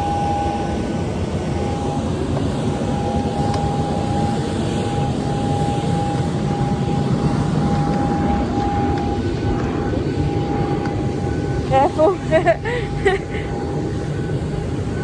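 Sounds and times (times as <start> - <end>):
constant high whine: 0.0 - 15.0
jet engines and airflow rumble: 0.0 - 15.0.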